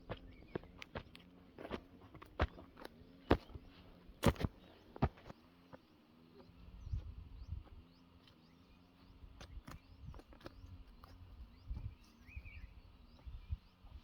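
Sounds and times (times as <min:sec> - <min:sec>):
low steady hum: 0:00.0 - 0:14.0
small birds chirping: 0:00.0 - 0:14.0.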